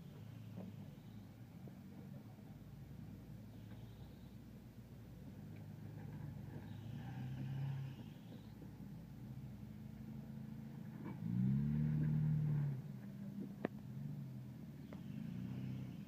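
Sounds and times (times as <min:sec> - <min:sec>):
off-road car engine revving: 0:00.0 - 0:16.0.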